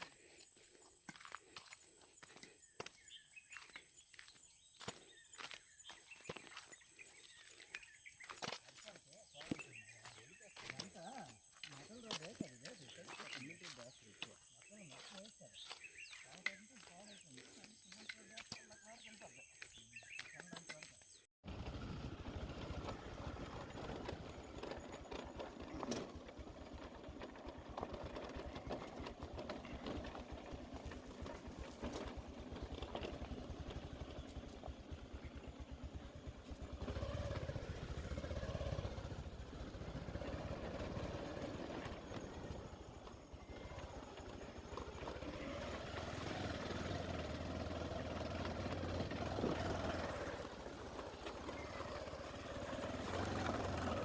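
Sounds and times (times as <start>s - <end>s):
motorcycle engine running: 0.0s - 20.4s, 21.4s - 54.0s.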